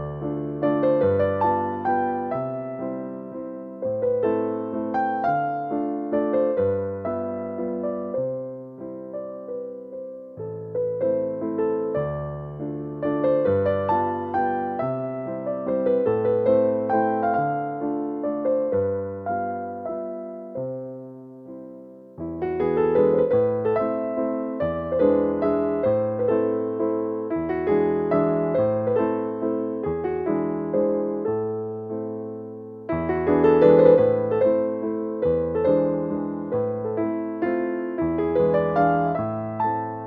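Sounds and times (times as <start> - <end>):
slow piano melody: 0.0 - 40.0.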